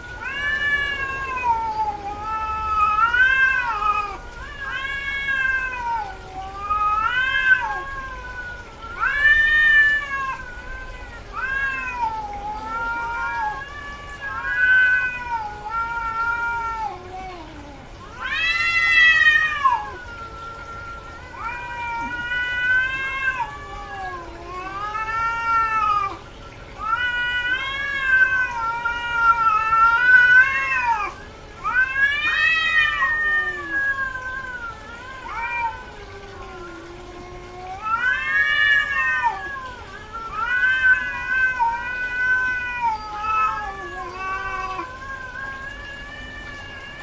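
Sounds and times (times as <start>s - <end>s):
cat yowling: 0.0s - 47.0s.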